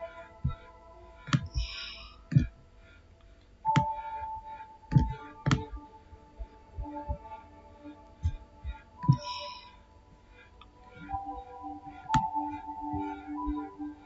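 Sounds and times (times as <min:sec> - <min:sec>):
faint steady tone: 0:00.0 - 0:14.0.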